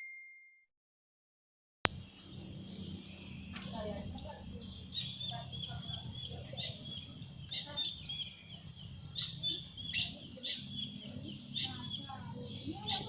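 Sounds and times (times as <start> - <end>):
songbirds chirping: 1.9 - 13.0.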